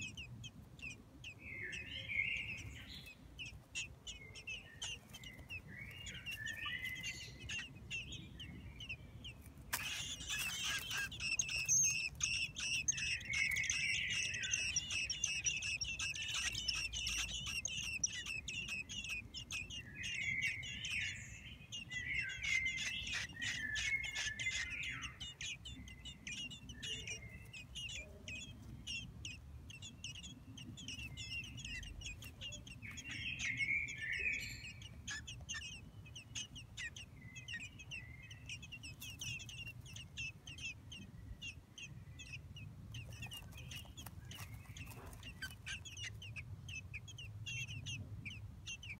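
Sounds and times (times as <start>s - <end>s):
nestlings begging chirps: 0.0s - 48.9s.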